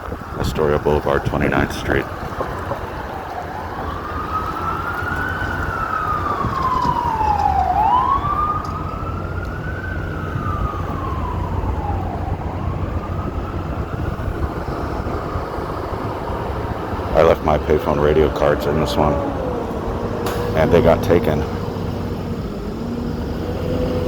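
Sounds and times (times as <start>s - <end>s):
emergency siren wailing: 0.0s - 24.0s
street traffic rumble: 0.0s - 24.0s.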